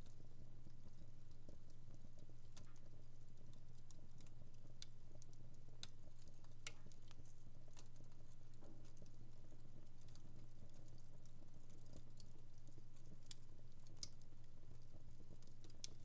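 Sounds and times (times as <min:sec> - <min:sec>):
wood fire crackling: 0:00.9 - 0:16.0.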